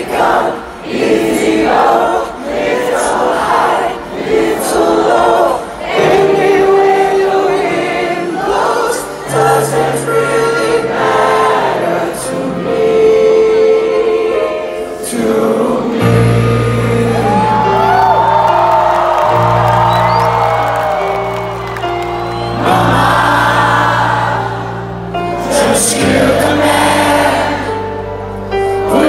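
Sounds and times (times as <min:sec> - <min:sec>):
audience singing along: 0:00.0 - 0:29.0
piano: 0:00.0 - 0:29.0.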